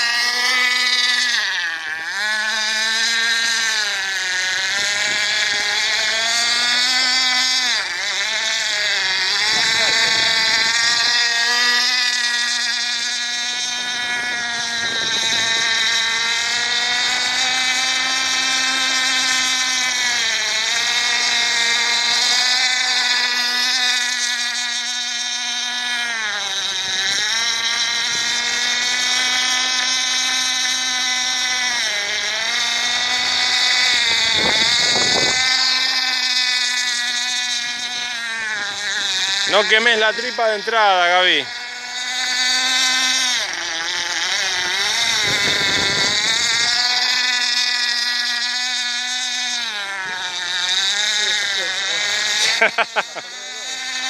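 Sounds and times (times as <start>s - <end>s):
model boat engine whining: 0.0s - 54.0s.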